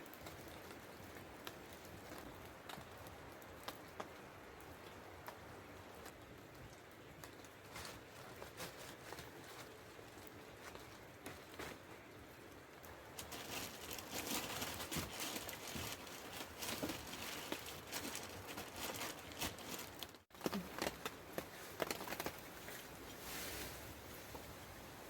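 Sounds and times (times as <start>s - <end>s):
rain pattering on a tarp: 0.0s - 25.0s.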